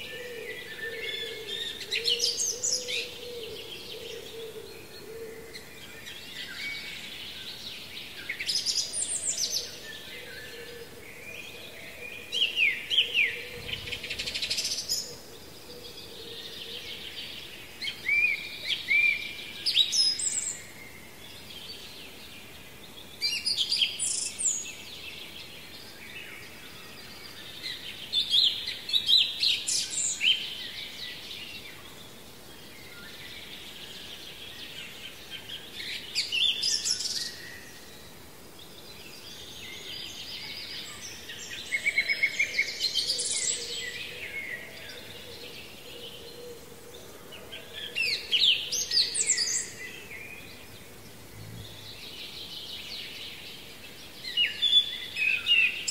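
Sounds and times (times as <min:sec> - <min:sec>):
faint outdoor background noise: 0:00.0 - 0:55.9.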